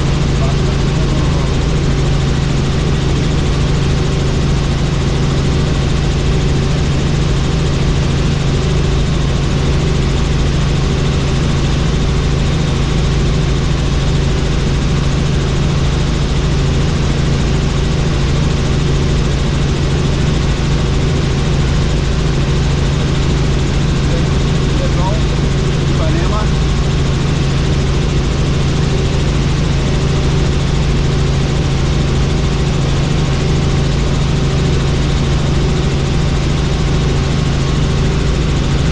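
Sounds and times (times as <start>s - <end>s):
helicopter rotor drone: 0.0s - 38.9s.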